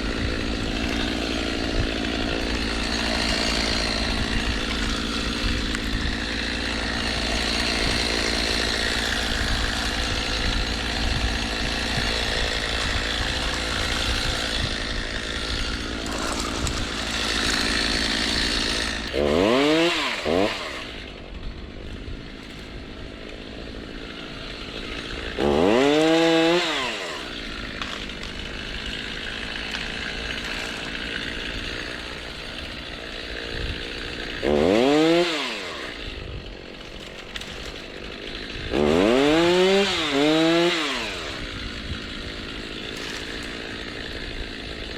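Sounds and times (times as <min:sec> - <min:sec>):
chainsaw cutting wood: 0:00.0 - 0:44.9
chainsaw idling and revving: 0:00.0 - 0:44.9.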